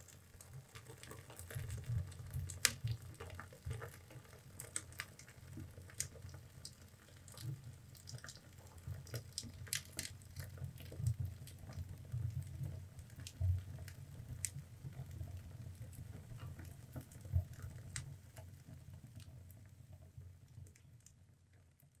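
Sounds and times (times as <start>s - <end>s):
wood fire crackling: 0.0s - 19.8s.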